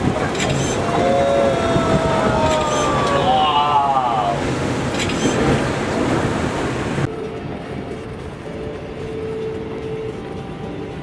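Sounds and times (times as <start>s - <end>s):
ocean waves breaking: 0.0s - 11.0s
wind noise: 0.0s - 11.0s.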